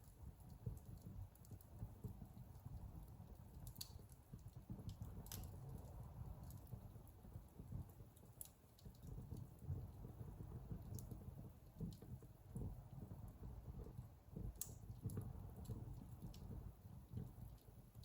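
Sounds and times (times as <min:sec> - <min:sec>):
fire crackles and pops: 0:00.0 - 0:18.0
low rumble of flames: 0:00.0 - 0:18.0.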